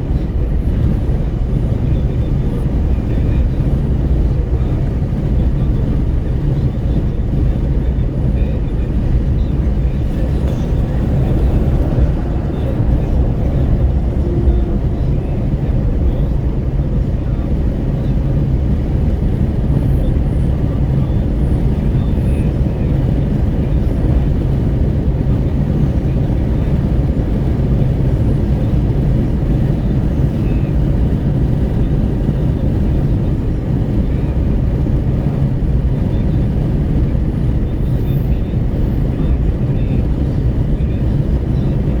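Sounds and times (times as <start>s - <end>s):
tyre and road noise: 0.0s - 42.0s
wind buffeting through car window: 0.0s - 42.0s.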